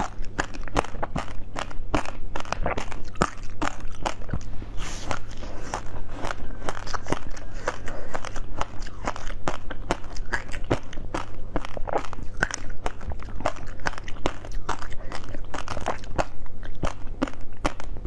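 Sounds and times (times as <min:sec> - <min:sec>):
chewing ice pop crunches: 0:00.0 - 0:18.0.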